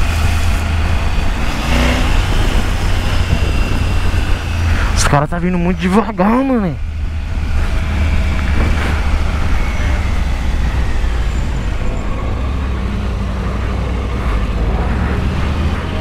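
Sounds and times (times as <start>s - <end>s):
motorcycle engine running at low revs: 0.0s - 4.9s, 6.8s - 16.0s
road and wind noise: 0.0s - 16.0s.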